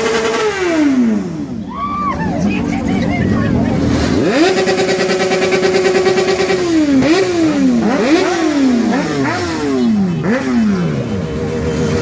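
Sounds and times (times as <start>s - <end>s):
motorcycle engine revving: 0.0s - 1.7s, 2.4s - 12.0s.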